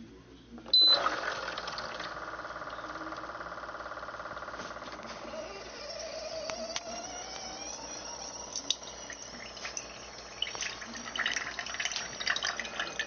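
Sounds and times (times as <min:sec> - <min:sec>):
water pump buzzing hum: 0:00.7 - 0:13.0.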